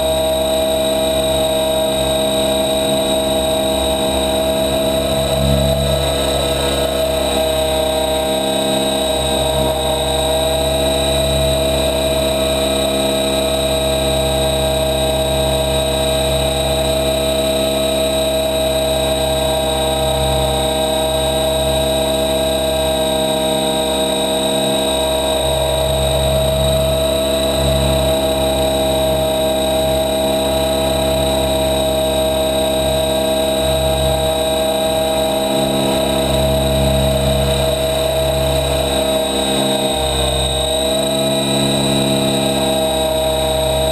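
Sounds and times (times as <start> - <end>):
helicopter flying: 0.0 - 43.9.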